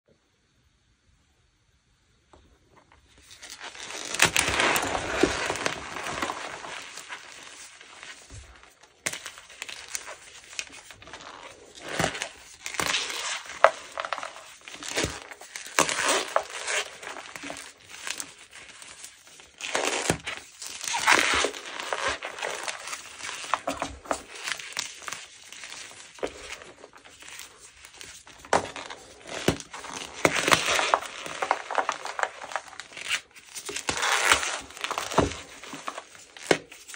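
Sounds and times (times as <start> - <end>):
chalk being crushed and crunching: 3.2 - 36.9.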